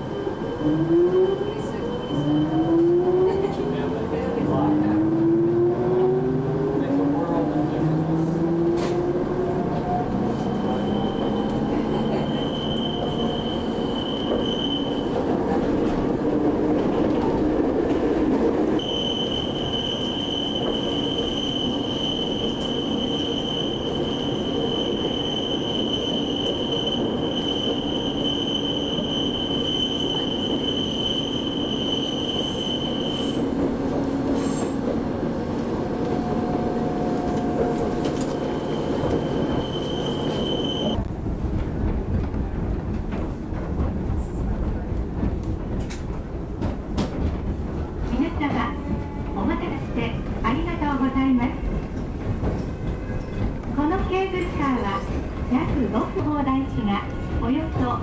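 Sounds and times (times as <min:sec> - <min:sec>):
funicular car rumbling: 0:00.0 - 0:58.0.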